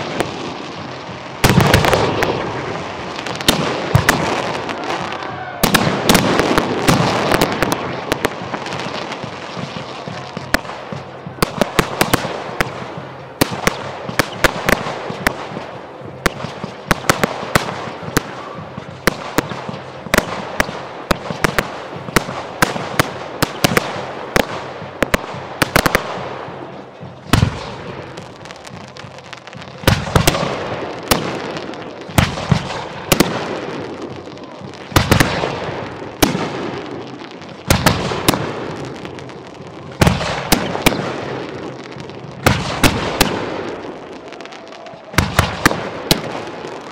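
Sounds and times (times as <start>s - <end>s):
deep fireworks booms: 0.0s - 46.9s
fireworks cracking and crackling: 0.0s - 46.9s.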